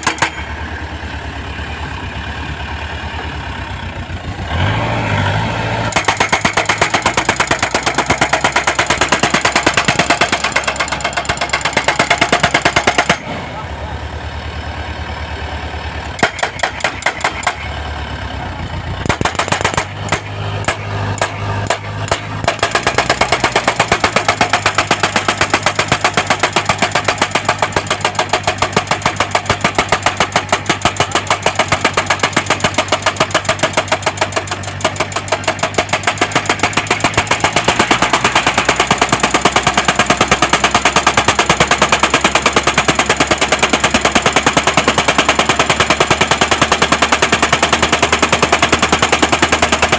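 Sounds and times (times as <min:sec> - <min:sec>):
machine hammering steel post: 0:00.0 - 0:00.6, 0:05.9 - 0:13.3, 0:16.2 - 0:17.9, 0:19.0 - 0:49.9
low engine hum: 0:00.0 - 0:49.9.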